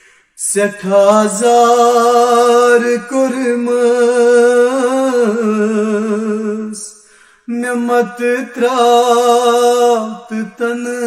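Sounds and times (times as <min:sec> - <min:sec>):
man singing lament: 0:00.4 - 0:11.0.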